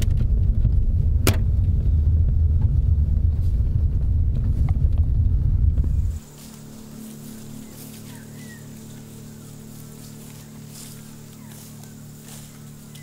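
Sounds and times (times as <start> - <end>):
engine and road rumble in car: 0.0 - 13.0.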